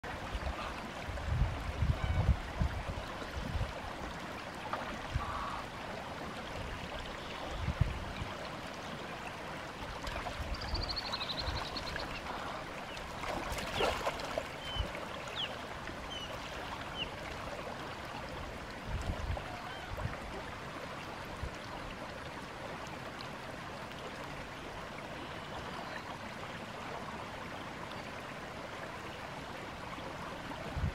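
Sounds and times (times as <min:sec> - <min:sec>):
water flowing and gurgling: 0:00.0 - 0:30.9.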